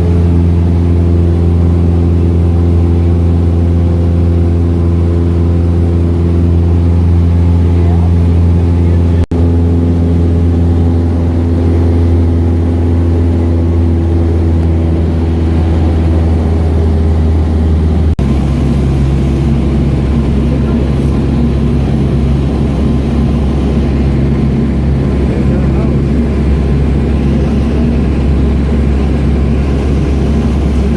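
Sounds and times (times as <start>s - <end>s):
airplane engine droning in cabin: 0.0s - 30.9s.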